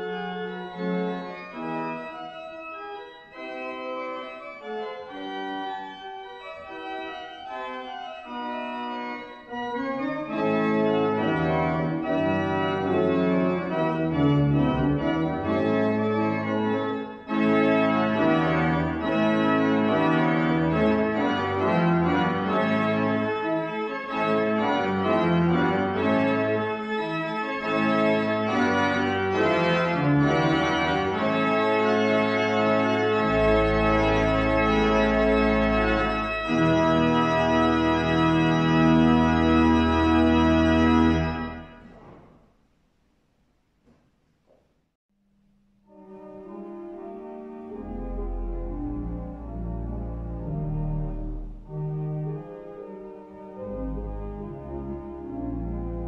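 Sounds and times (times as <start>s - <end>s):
church organ playing chords: 0.0s - 42.2s, 45.8s - 56.0s.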